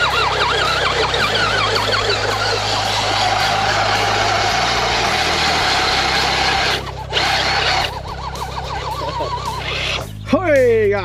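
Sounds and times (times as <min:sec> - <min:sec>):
warbling siren-like tone: 0:00.0 - 0:10.2
vehicle motor noise: 0:00.0 - 0:10.4.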